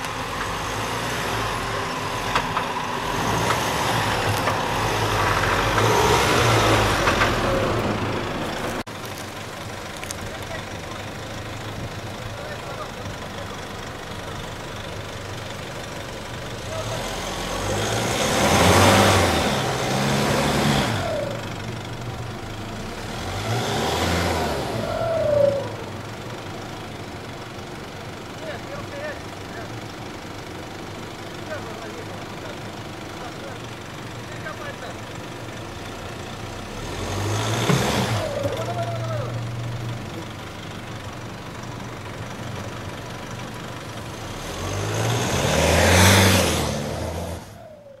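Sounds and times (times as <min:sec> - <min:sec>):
off-road vehicle engine revving: 0:00.0 - 0:08.9, 0:10.0 - 0:48.0.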